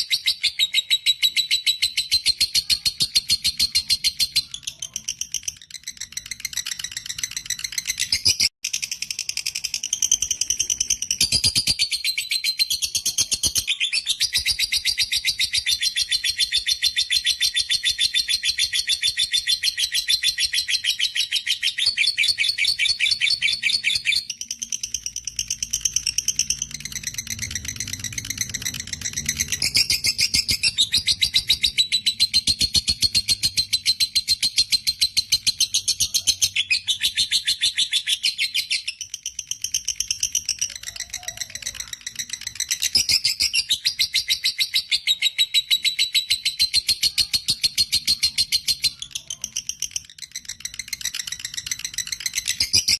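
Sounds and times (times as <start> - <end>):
lovebird chattering: 0.0 - 52.9.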